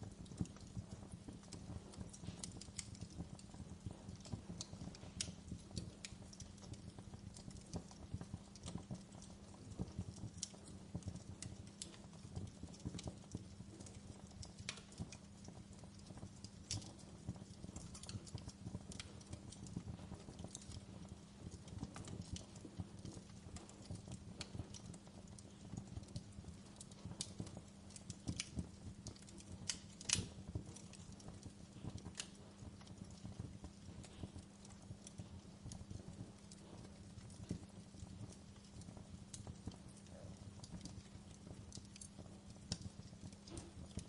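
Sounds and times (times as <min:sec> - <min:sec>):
sharp pops and snaps: 0:00.0 - 0:44.0
wood fire crackling: 0:00.0 - 0:44.0.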